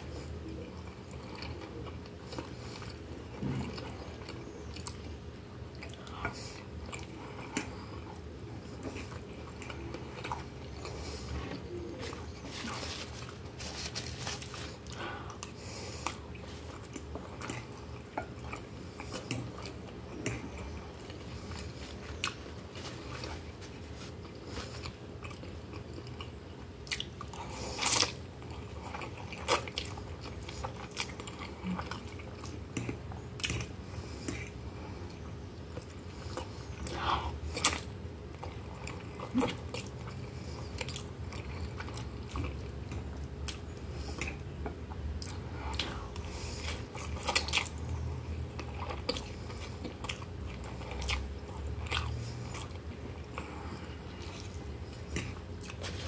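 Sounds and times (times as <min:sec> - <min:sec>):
chewing and lip smacks: 0:00.1 - 0:56.0.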